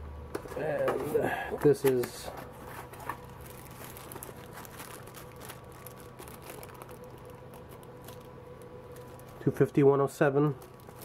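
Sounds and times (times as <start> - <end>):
low electrical hum: 0.0 - 11.0
plastic bag crinkling: 1.6 - 11.0.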